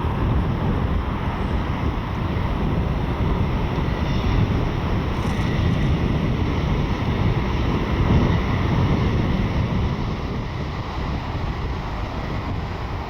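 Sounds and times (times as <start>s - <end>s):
jet engine rumble: 0.0s - 13.0s
wind on microphone: 0.0s - 13.0s.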